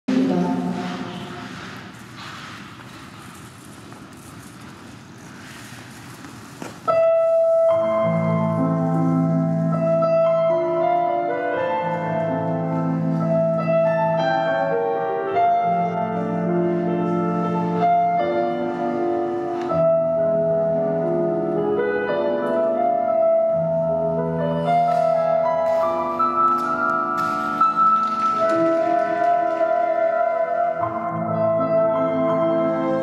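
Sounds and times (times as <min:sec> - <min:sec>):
slow classical piano music: 0:00.1 - 0:33.0.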